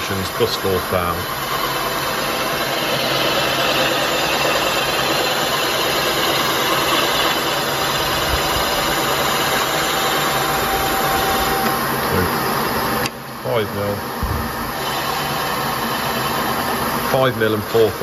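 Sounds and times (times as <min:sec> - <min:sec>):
milling machine cutting metal: 0:00.0 - 0:18.0.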